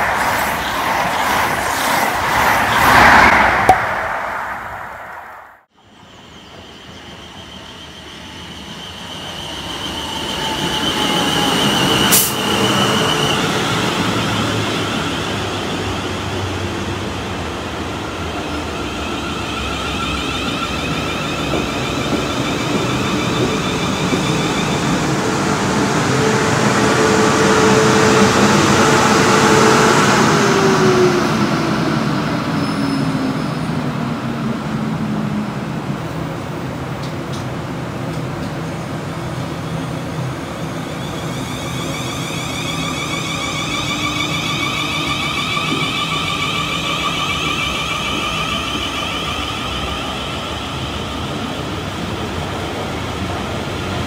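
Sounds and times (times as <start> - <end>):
train wheels rumbling on rails: 6.1 - 54.0.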